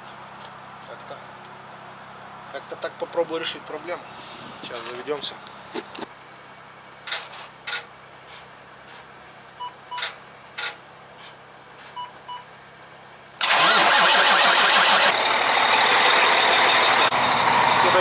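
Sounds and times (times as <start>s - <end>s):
diesel engine starting and running: 0.0s - 18.0s.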